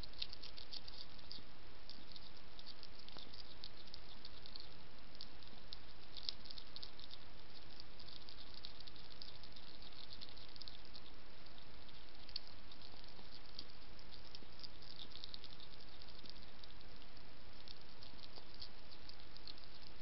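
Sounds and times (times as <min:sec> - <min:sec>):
hedgehog crunching biscuits: 0:00.0 - 0:20.0
steady hiss: 0:00.0 - 0:20.0.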